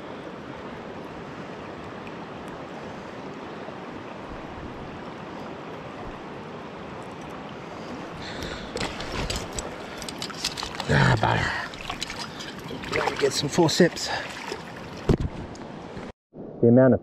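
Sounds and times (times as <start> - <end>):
river water rushing over rocks: 0.1 - 15.1.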